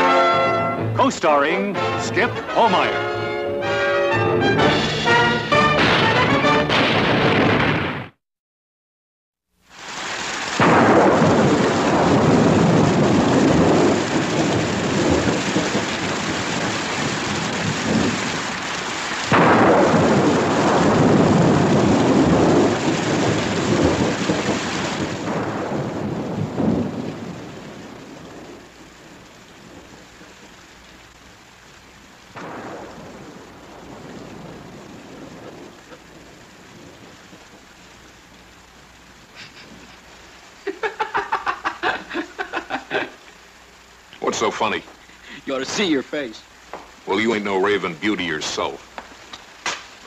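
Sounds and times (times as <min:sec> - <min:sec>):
steady rain: 0:00.0 - 0:08.2, 0:09.5 - 0:50.0
thunder rumbling: 0:00.0 - 0:08.2, 0:10.2 - 0:50.0.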